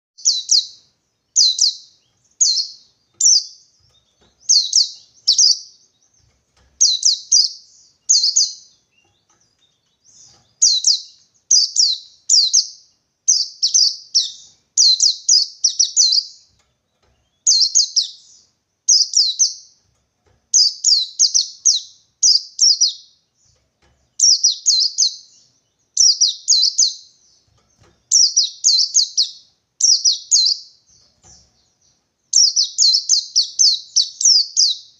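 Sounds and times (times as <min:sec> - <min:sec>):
bird high chirpy song: 0:00.2 - 0:34.9.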